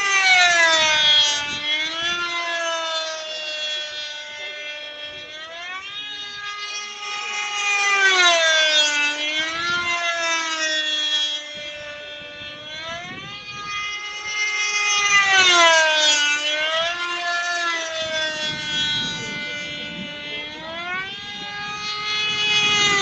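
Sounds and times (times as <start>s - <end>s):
model airplane engine buzzing: 0.0s - 23.0s.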